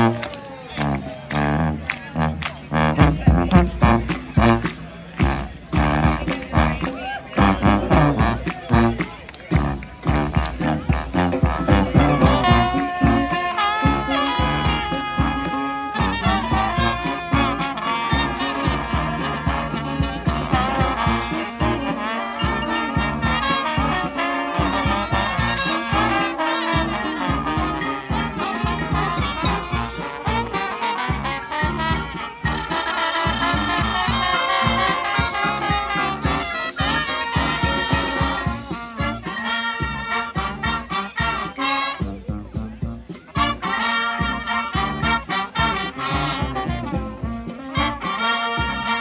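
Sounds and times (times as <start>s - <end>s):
bass drum beat: 0.0s - 49.0s
brass band playing: 0.0s - 49.0s.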